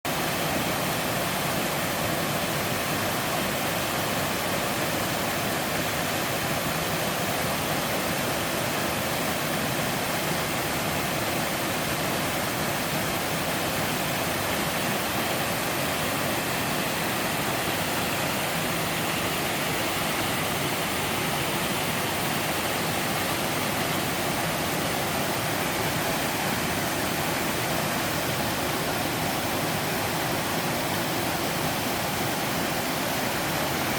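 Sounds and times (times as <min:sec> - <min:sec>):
waterfall pouring: 0:00.1 - 0:33.9.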